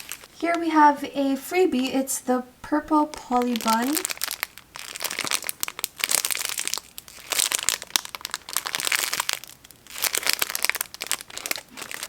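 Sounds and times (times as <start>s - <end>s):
plastic packaging crinkling: 0.0s - 1.0s, 2.6s - 12.0s.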